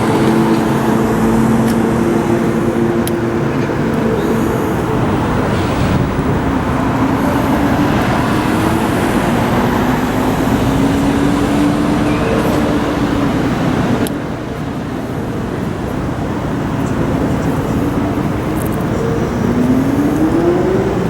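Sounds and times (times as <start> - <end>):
vehicle engine hum: 0.0 - 21.0
wind and road rush: 0.0 - 21.0.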